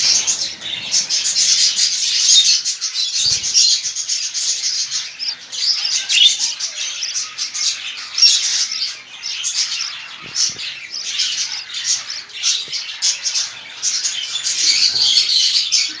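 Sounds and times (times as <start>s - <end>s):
budgerigars chirping and chattering: 0.0s - 16.0s.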